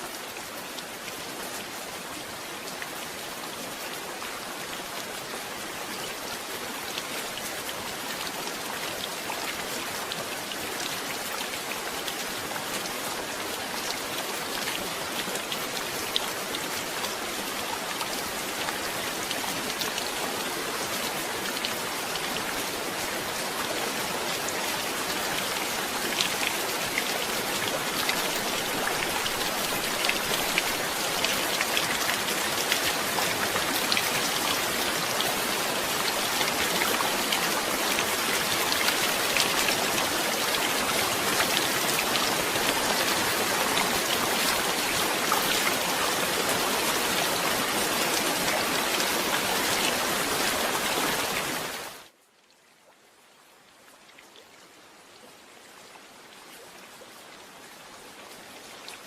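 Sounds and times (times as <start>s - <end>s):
heavy rain: 0.0s - 52.2s.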